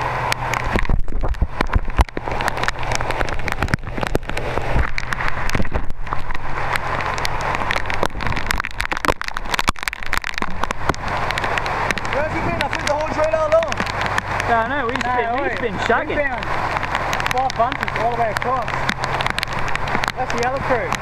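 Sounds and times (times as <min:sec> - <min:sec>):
heavy rain falling: 0:00.0 - 0:21.0
low engine hum: 0:00.0 - 0:21.0.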